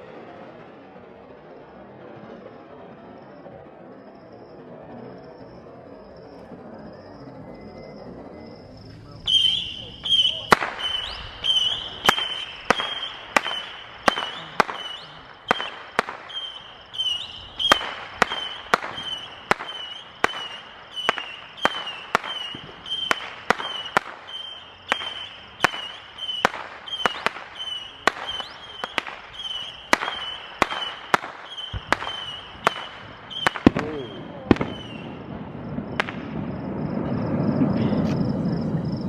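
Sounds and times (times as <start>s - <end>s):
fireworks banging: 6.3s - 39.0s.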